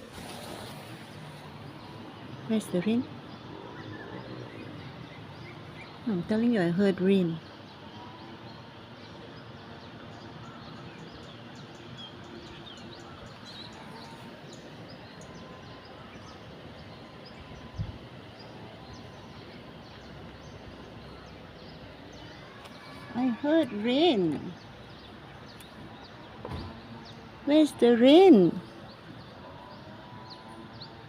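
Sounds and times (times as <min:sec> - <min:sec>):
outdoor background noise: 0:00.0 - 0:31.0
small birds chirping: 0:00.0 - 0:31.0.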